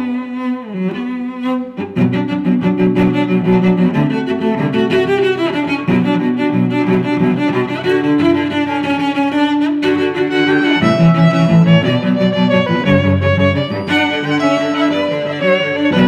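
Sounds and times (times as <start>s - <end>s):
violin and cello music: 0.0s - 16.0s.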